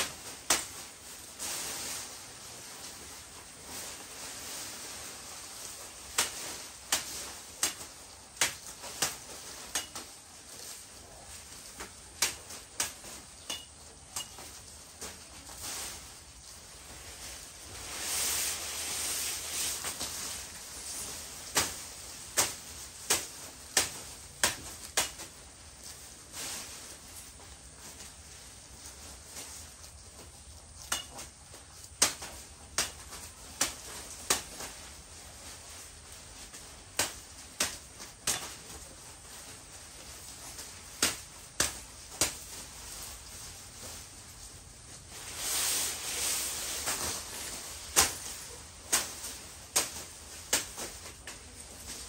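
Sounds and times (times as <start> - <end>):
steady hiss: 0.0 - 52.0.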